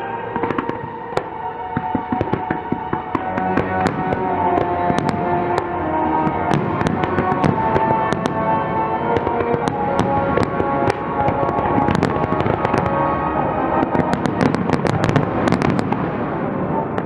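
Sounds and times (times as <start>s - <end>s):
loud music playing: 0.0s - 15.9s
fireworks popping and crackling: 0.4s - 17.0s.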